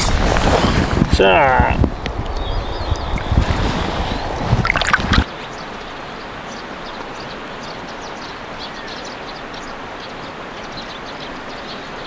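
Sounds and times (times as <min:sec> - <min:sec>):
rushing outdoor noise: 0:00.0 - 0:12.0
small birds chirping: 0:02.1 - 0:12.0.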